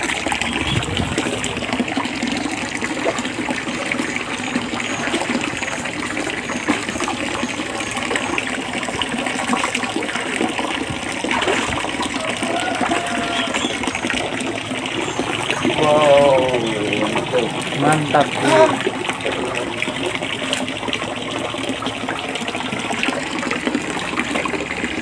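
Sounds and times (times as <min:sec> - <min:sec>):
water gushing and splashing: 0:00.0 - 0:25.0.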